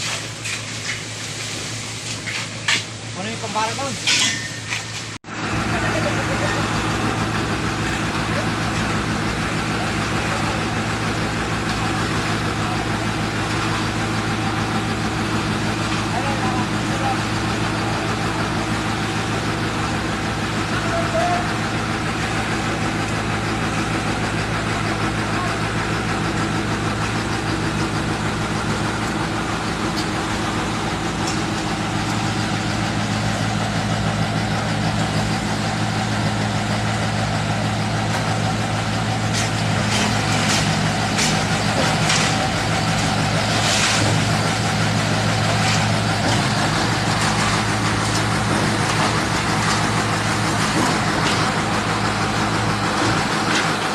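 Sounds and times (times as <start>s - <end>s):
pump engine running: 0.0s - 53.9s
pumping machinery strokes: 0.0s - 53.9s.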